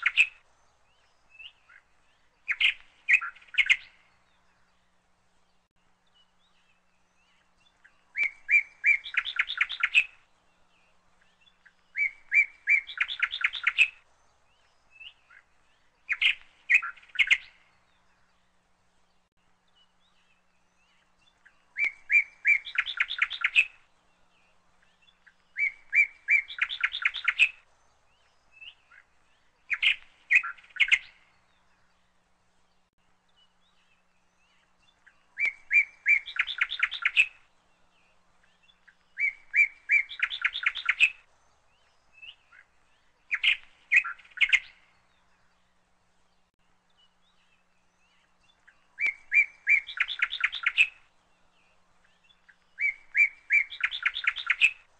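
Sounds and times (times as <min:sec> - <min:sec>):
songbird singing with trills: 0:00.0 - 0:54.9.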